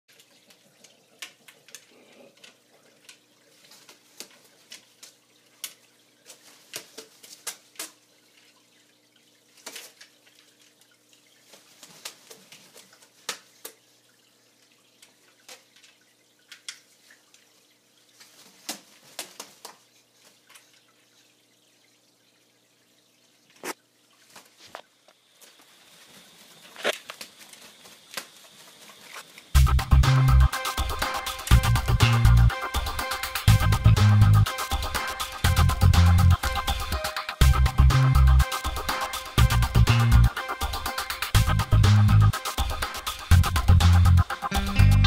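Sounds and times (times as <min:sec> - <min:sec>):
water splashing and dripping: 0:00.1 - 0:45.0.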